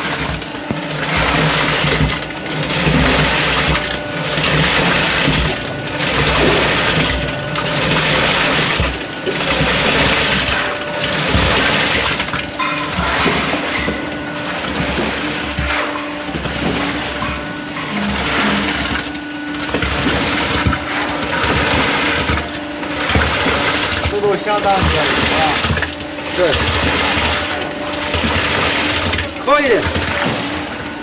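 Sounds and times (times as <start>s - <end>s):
concrete pump motor hum: 0.0s - 31.0s
gritty churning of concrete: 0.0s - 31.0s.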